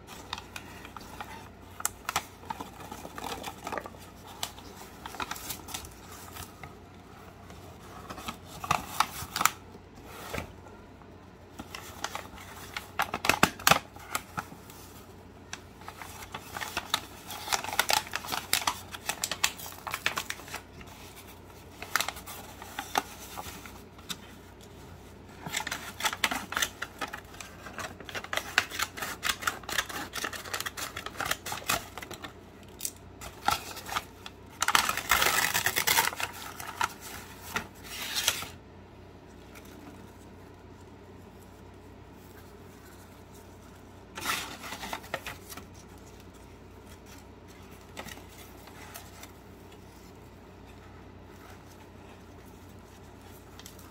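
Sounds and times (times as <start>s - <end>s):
packing paper rustling: 0.0s - 10.6s, 11.4s - 38.6s, 39.2s - 53.9s.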